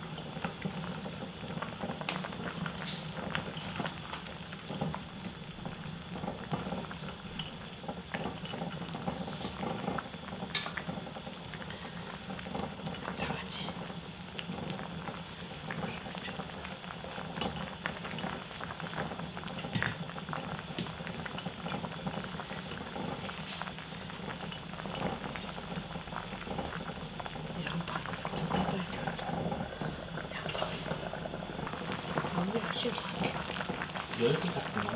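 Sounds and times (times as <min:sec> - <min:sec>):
stew bubbling at a boil: 0:00.0 - 0:34.9.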